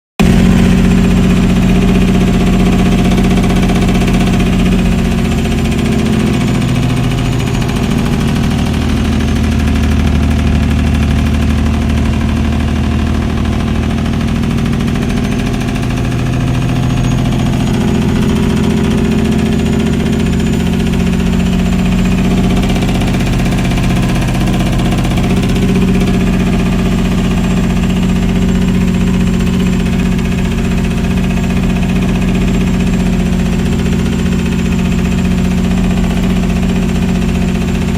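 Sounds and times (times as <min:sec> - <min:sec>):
diesel truck engine brake exhaust: 0:00.2 - 0:37.9.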